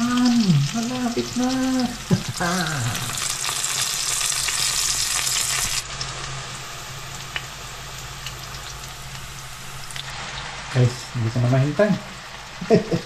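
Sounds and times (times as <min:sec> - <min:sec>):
mushroom slices sizzling in oil: 0:00.0 - 0:13.0.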